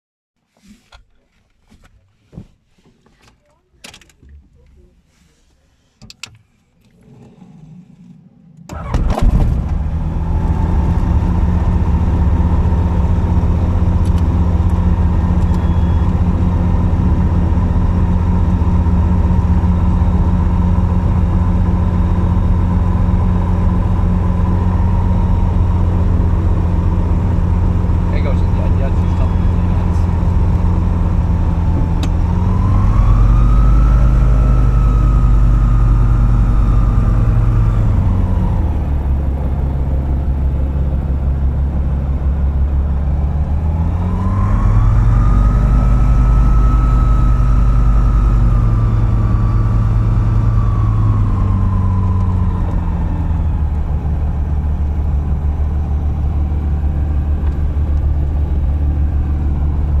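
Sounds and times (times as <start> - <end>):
light aeroplane engine and propeller: 6.9 - 60.0.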